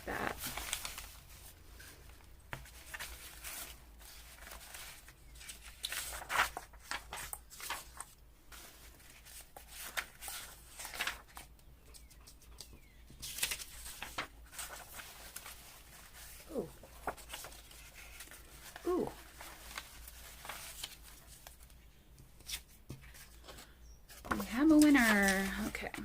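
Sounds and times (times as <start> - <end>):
paper rustling and shuffling: 0.0 - 26.0.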